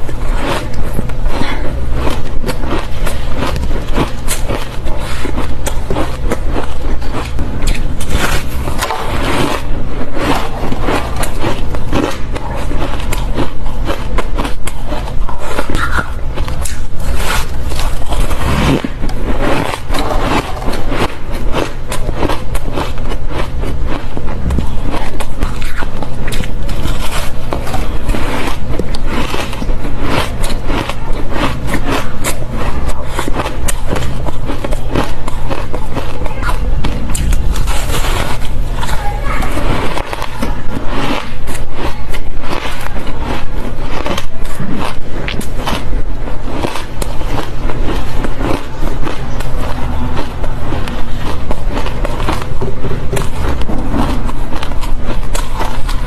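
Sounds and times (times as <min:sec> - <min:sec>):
ice being chewed crunching: 0:00.0 - 0:56.0.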